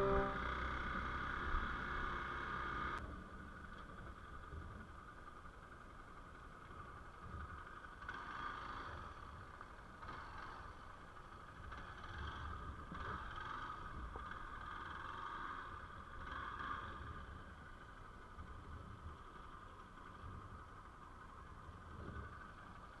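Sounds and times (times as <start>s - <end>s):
faint motorcycle engine running: 4.5s - 23.0s.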